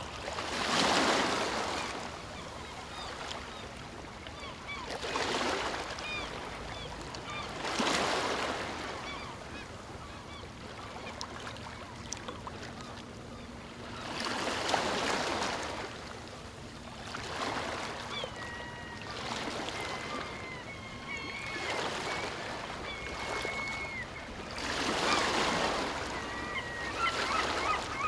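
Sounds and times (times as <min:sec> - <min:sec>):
birds calling: 0:00.5 - 0:28.0.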